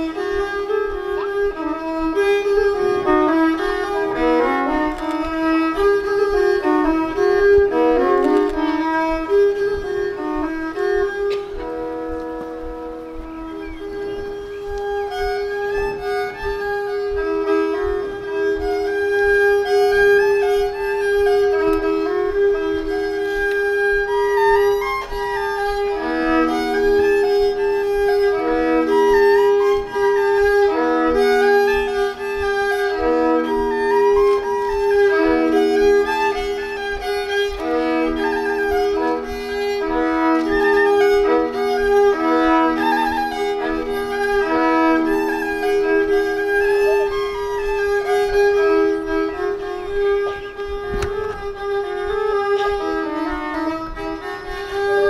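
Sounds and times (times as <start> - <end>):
fiddle playing folk melody: 0.0 - 55.0.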